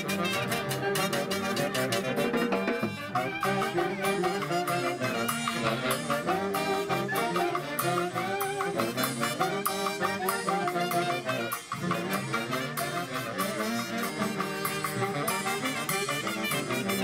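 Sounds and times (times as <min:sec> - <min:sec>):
live dance band playing: 0:00.0 - 0:17.0.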